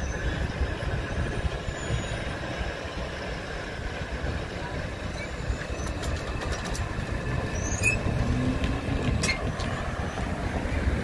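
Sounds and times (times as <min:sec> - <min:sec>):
road traffic rumble: 0:00.0 - 0:11.0
train rumble: 0:00.0 - 0:11.0.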